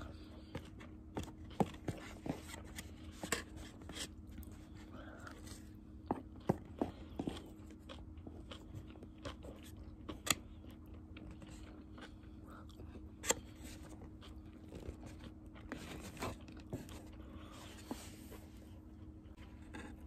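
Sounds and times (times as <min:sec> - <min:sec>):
person chewing food: 0:00.0 - 0:19.4
faint steady hum: 0:00.0 - 0:20.0.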